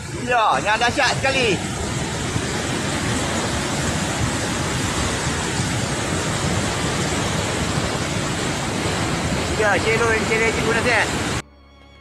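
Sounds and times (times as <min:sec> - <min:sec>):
muddy water rushing down river: 0:00.0 - 0:11.4.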